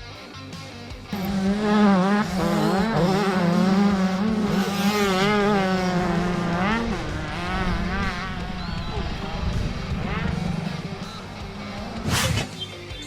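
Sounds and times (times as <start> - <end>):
dirt bike engine revving: 0.7 - 13.0.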